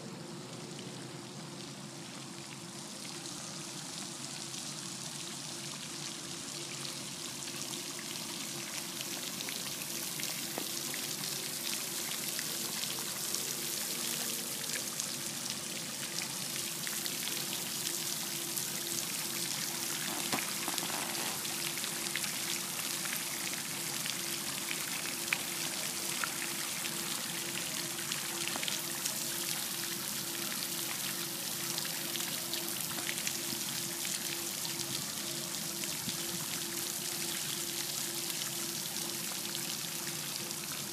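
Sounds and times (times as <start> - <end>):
faint hum: 0.0 - 40.9
fountain spray pattering on water: 2.2 - 40.9.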